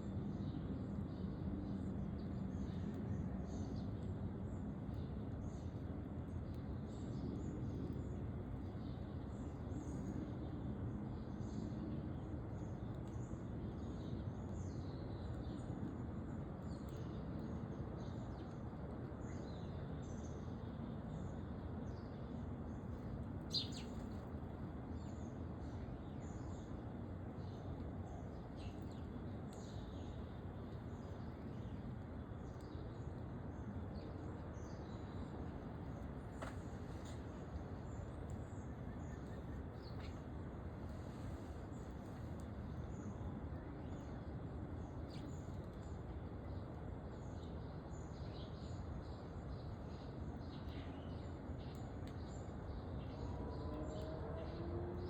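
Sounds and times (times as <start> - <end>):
low background noise: 0.0 - 55.0
small songbirds chirping: 0.0 - 55.0.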